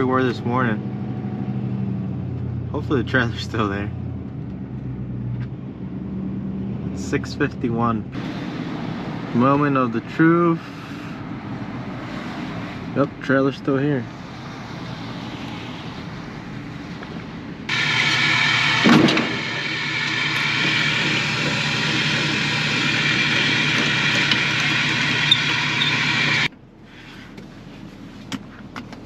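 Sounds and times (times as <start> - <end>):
vehicle engine and road noise: 0.0 - 29.0.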